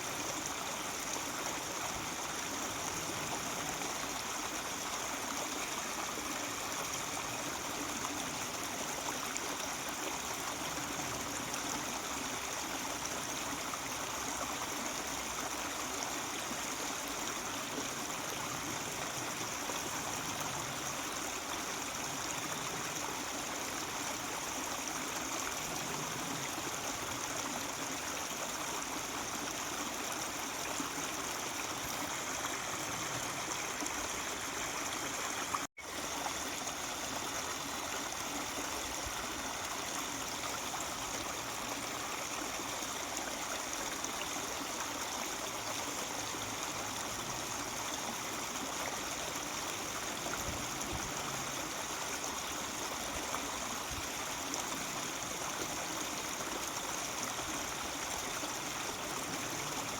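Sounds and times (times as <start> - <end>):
mountain stream murmuring: 0.0 - 59.9.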